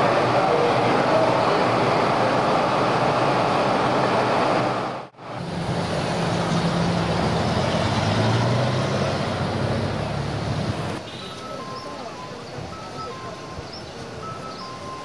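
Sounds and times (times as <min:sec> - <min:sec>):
station platform noise: 0:00.0 - 0:07.3, 0:09.8 - 0:15.0
city street traffic: 0:00.0 - 0:15.0
idling vehicle engines hum: 0:00.0 - 0:15.0.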